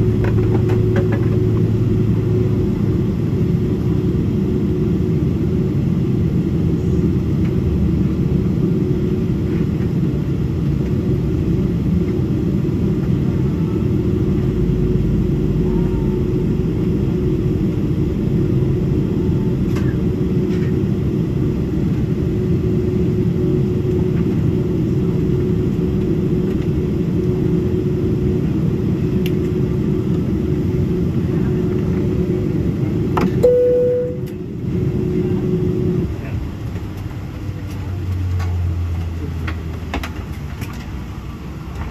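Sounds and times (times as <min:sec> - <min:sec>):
aircraft cabin rumble: 0:00.0 - 0:41.9
jet engines idling hum: 0:00.0 - 0:41.9.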